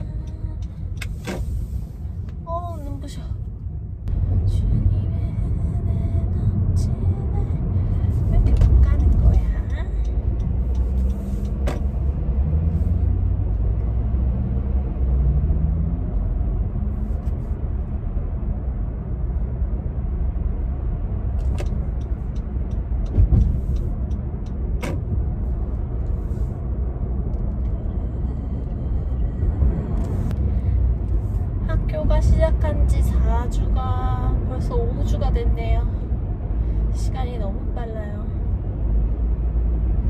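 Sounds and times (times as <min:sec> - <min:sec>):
engine and road rumble: 0:00.0 - 0:40.0.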